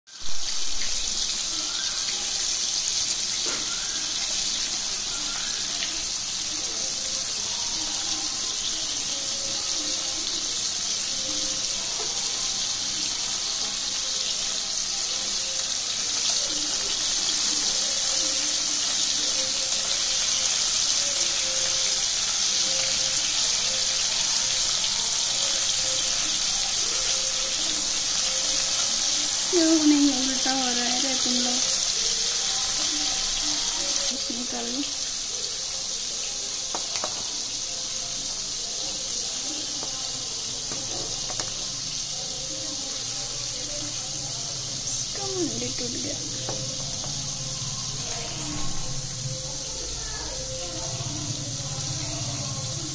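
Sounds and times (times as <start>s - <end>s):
prawns sizzling in hot oil: 0.1s - 52.9s.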